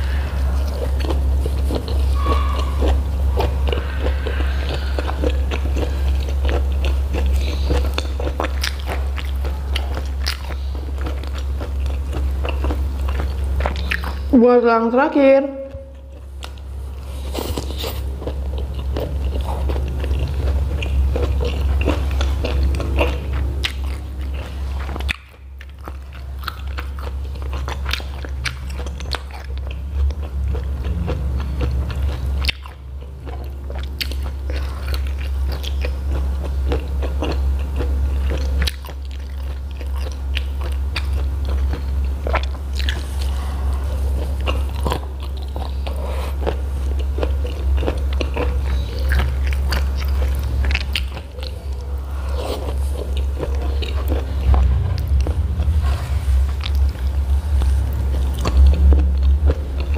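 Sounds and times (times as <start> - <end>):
biting and chewing: 0.0 - 14.3, 16.0 - 59.9
steady low hum: 0.0 - 59.9.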